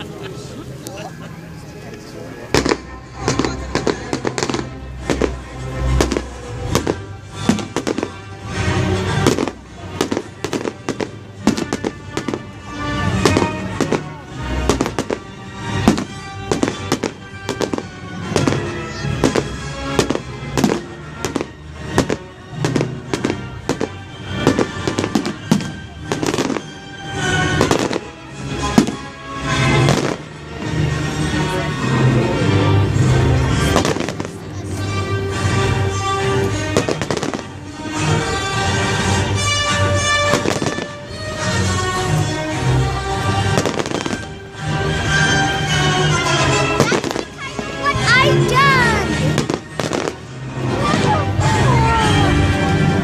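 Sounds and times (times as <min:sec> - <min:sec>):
music playing: 0:00.0 - 0:53.0
fireworks bangs and crackles: 0:02.4 - 0:53.0.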